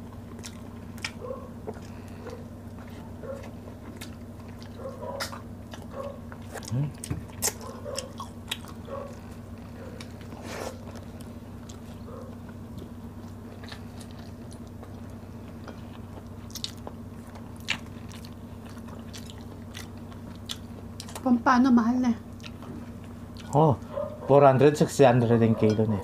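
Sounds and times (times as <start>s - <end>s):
people chewing food: 0.0s - 26.0s
steady low hum: 0.0s - 26.0s.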